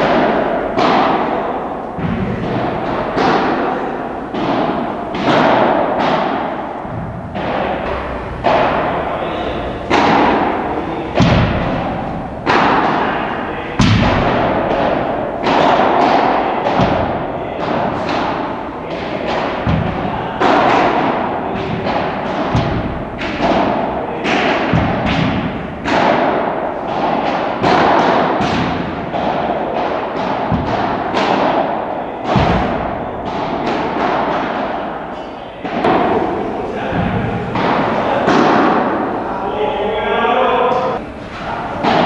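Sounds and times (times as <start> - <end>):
balls bouncing on court: 0.0 - 1.4, 2.0 - 34.6
rackets hitting balls: 0.0 - 42.0.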